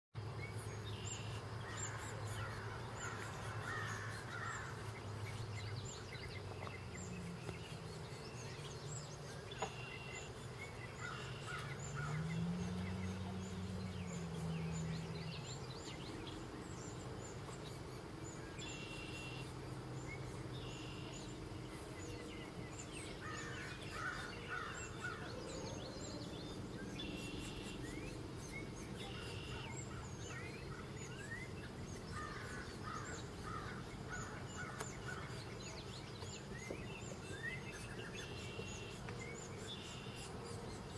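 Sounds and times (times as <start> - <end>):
birds singing and chirping: 0.2 - 40.9.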